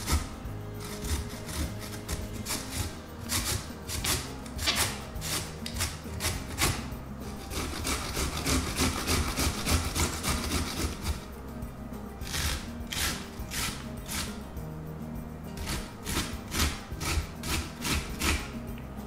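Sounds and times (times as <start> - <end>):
carrots grated on metal grater: 0.0 - 11.3, 12.2 - 14.4, 15.6 - 18.6.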